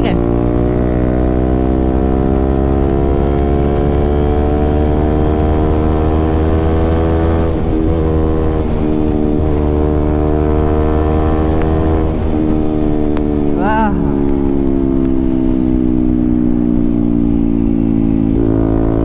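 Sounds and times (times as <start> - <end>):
loud motorcycle exhaust: 0.0 - 19.0.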